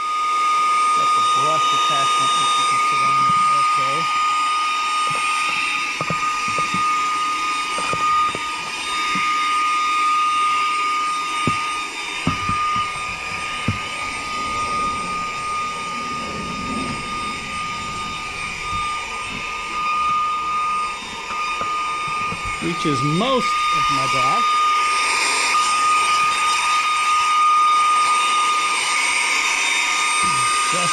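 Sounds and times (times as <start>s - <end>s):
handheld vacuum whining: 0.0s - 30.9s.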